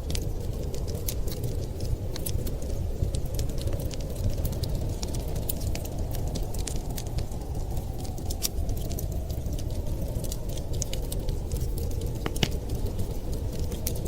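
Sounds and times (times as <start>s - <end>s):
low rush of wind: 0.0s - 14.0s
wood fire crackling and popping: 0.0s - 14.0s.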